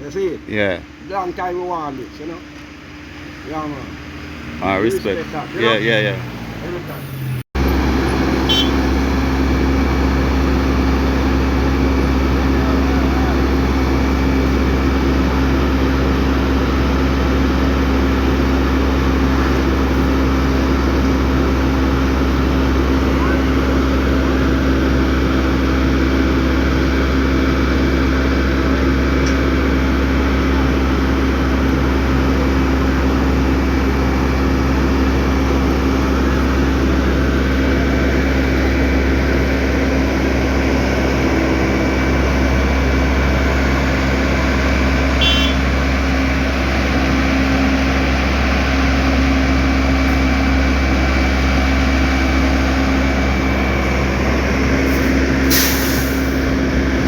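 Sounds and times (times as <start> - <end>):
diesel machinery engine rumbling: 0.0 - 57.0.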